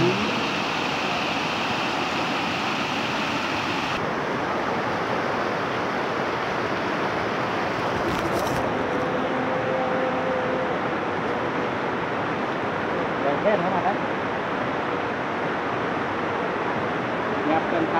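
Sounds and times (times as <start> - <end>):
river rushing over rocks: 0.0 - 17.9.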